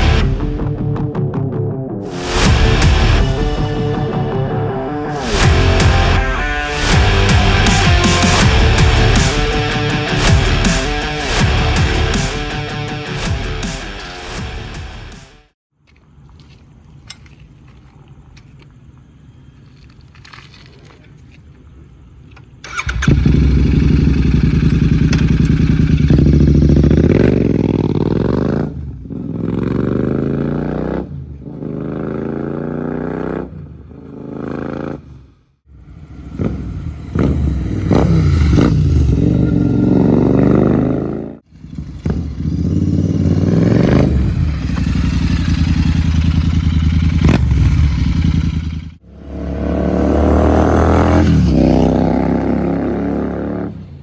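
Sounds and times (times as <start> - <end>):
motorcycle engine idling and revving: 0.0 - 15.6, 22.6 - 54.0.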